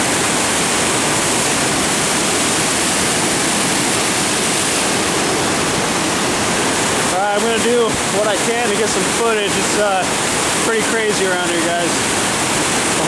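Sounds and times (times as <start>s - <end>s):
fast water rushing: 0.0s - 13.0s.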